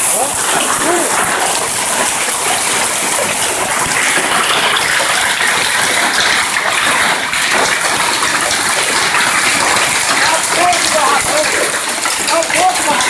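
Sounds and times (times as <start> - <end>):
hail and heavy rain falling: 0.0 - 13.0.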